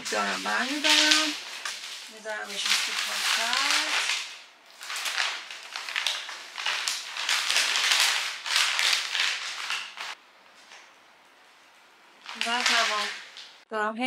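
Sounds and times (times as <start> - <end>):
paper and envelope crinkling: 0.0 - 13.6.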